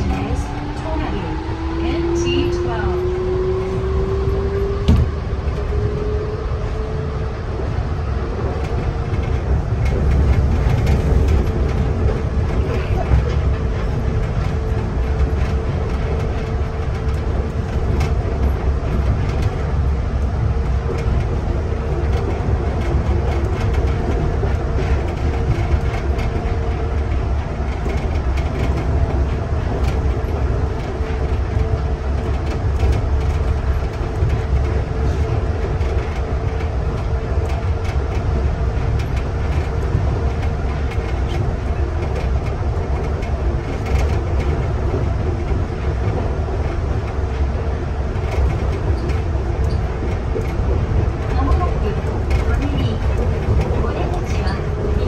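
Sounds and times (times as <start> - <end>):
constant hum: 0.0 - 55.0
train running rumble: 0.0 - 55.0.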